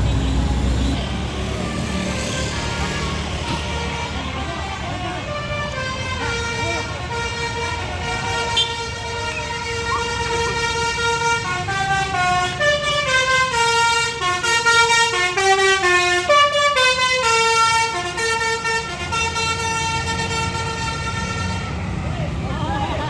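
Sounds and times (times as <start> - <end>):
musical bus horn playing tune: 1.8 - 21.8.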